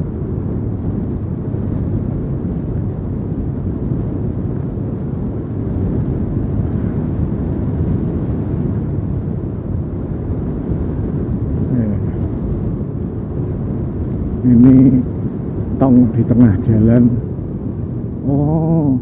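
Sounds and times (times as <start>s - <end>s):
motorcycle engine and wind rumble: 0.0s - 19.0s.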